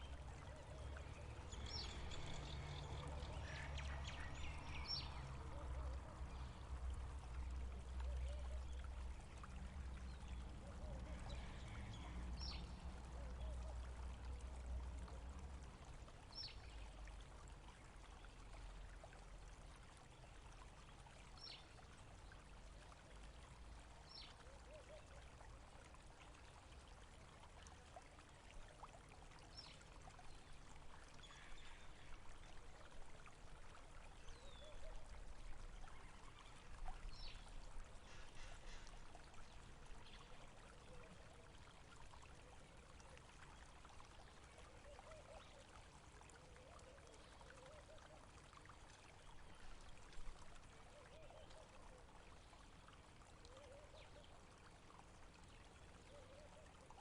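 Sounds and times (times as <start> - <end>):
stream trickling: 0.0 - 57.0.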